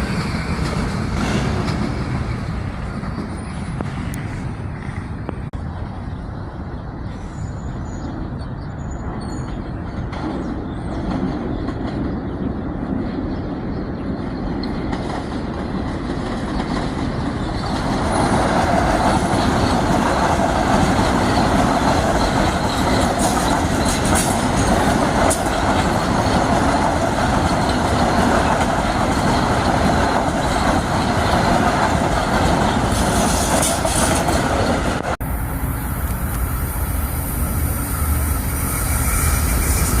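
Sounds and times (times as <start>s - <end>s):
train passing: 0.0s - 40.0s.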